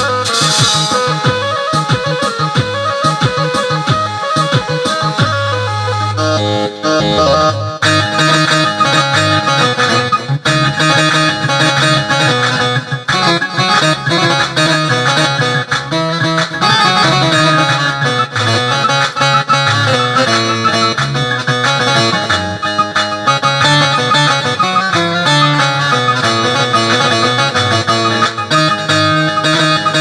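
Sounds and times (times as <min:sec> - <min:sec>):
plucked-string keyboard music: 0:00.0 - 0:30.0.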